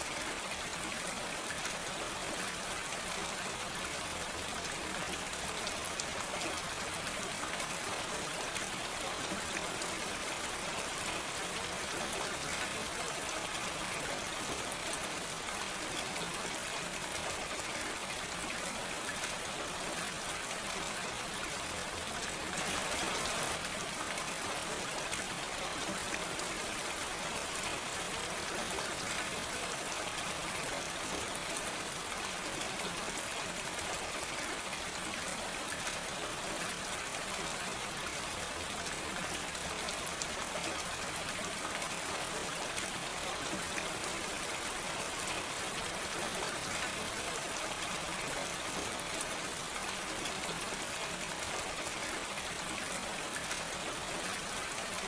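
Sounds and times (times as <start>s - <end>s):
steady gentle rain: 0.0s - 55.0s.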